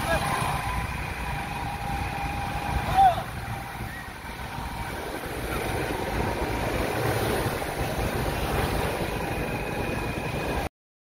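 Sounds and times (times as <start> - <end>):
vehicle engines running: 0.0 - 10.7.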